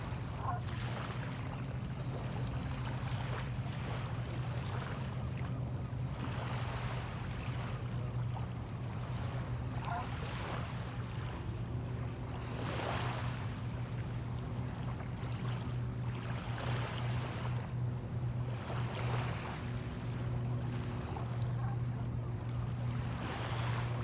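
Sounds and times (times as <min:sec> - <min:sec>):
low engine hum: 0:00.0 - 0:24.0
small waves washing in: 0:00.0 - 0:24.0.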